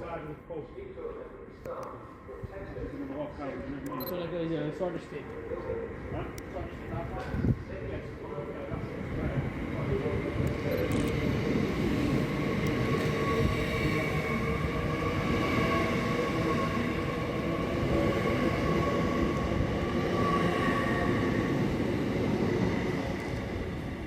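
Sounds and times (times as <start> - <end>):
train rumbling with high whine: 0.0 - 24.0.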